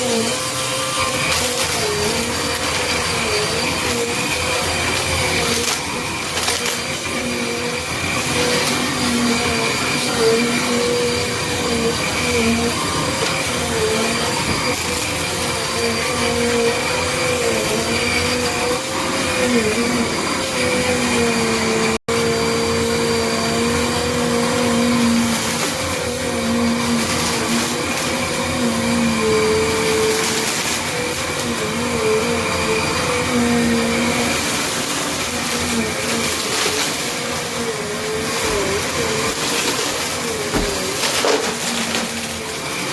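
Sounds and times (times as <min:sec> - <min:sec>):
vacuum cleaner motor whine: 0:00.0 - 0:42.9.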